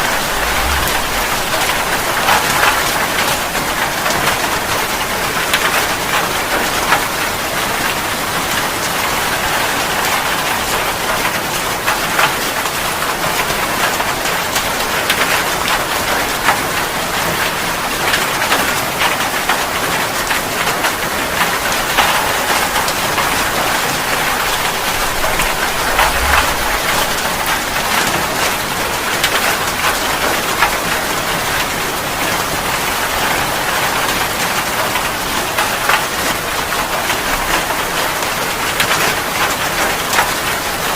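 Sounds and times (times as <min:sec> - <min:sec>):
steady rain falling: 0:00.0 - 0:40.9
raindrops ticking on a surface: 0:03.6 - 0:40.9.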